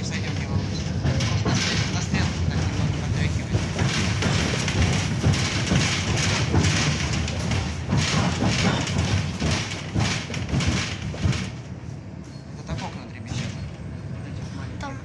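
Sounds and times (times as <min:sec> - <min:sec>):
rattles and clatter of tram body: 0:00.0 - 0:15.0
tram wheels rumbling on rails: 0:00.0 - 0:15.0.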